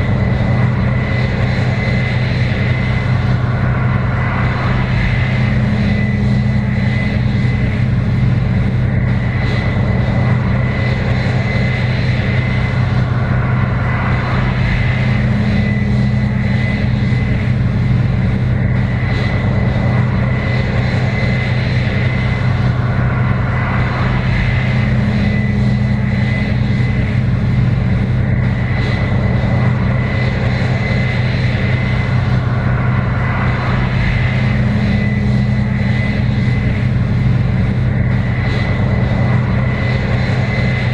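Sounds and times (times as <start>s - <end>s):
combine harvester mechanical drone: 0.0s - 40.9s
deeper hum: 0.0s - 40.9s
high whine: 0.0s - 40.9s.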